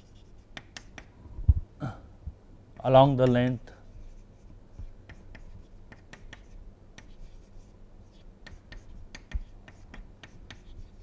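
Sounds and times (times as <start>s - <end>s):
chalk tapping and scratching: 0.0s - 1.1s, 3.2s - 11.0s.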